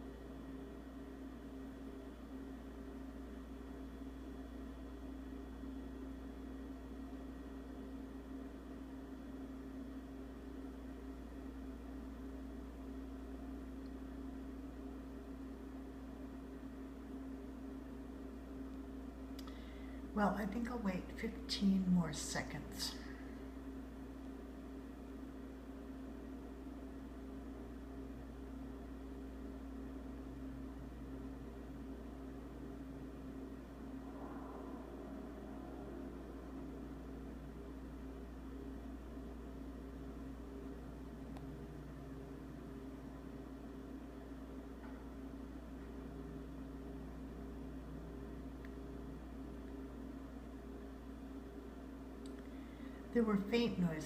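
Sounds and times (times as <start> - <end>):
refrigerator humming: 0.0 - 54.0.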